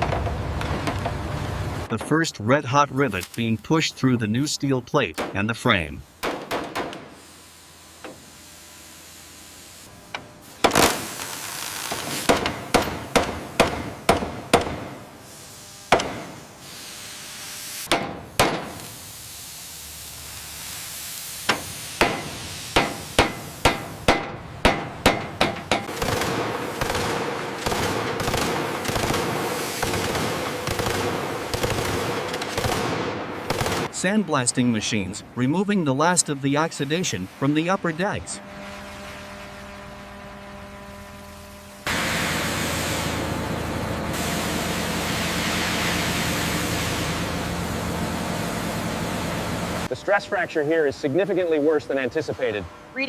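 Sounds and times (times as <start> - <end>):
steady hiss with hum: 0.5 - 43.4.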